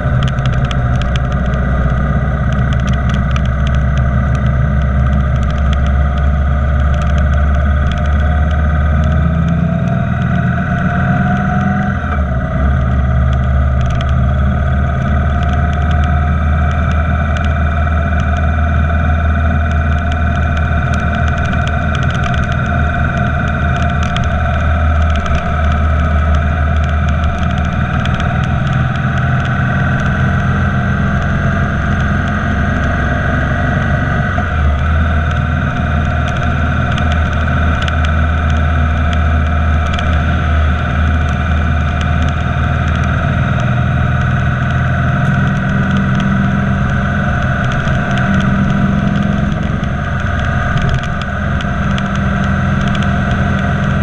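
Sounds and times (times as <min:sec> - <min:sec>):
motorcycle engine cruising: 0:00.0 - 0:54.0
road noise: 0:00.0 - 0:54.0.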